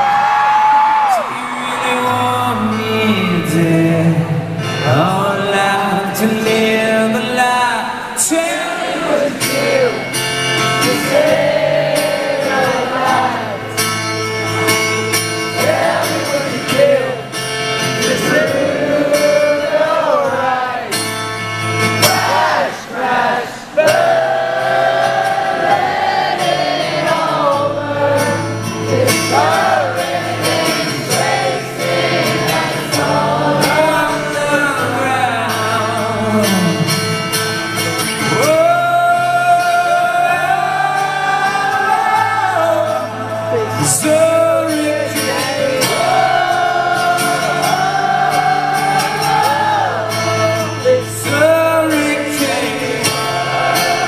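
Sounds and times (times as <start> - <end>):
acoustic band accompaniment: 0.0 - 54.0
wordless singing: 1.8 - 13.9, 15.4 - 21.1, 21.9 - 36.8, 38.2 - 54.0.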